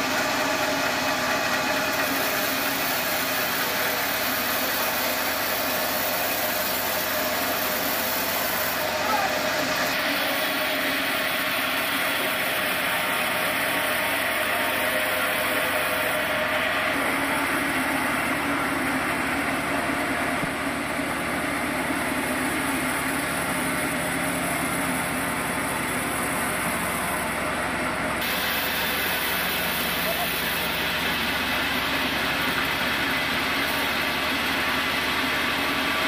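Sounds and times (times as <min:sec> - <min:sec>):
band sawmill running: 0:00.0 - 0:36.0.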